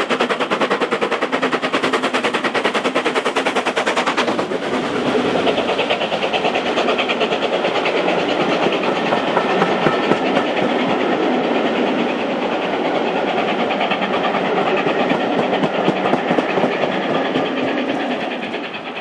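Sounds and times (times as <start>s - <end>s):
train wheels clicking over rail joints: 0.0s - 19.0s.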